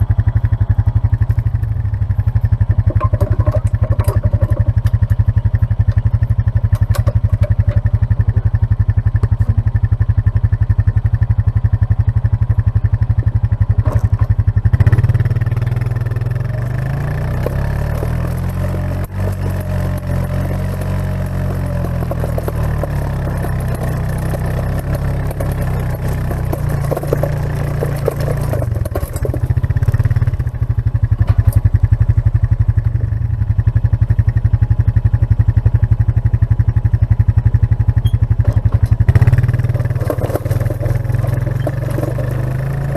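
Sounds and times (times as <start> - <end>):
mini excavator diesel engine: 0.0 - 42.9.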